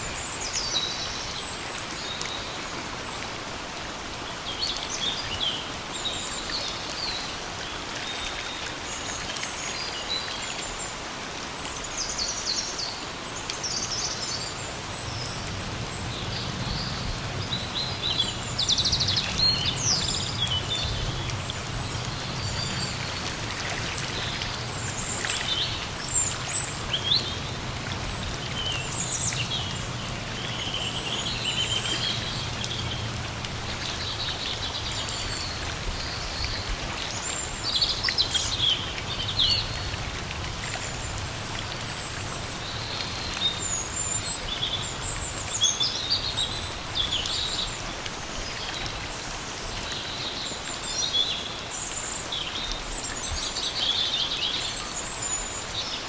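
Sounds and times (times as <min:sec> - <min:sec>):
songbirds chirping: 0:00.0 - 0:56.0
steady rain falling: 0:00.0 - 0:56.0.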